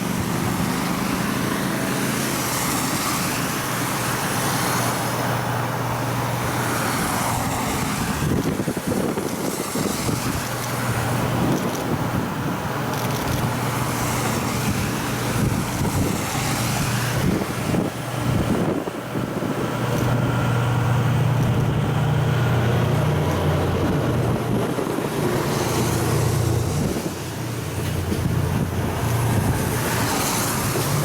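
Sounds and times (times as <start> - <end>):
diesel locomotive engine drone: 0.0 - 31.0
train wheels rolling: 0.0 - 31.0.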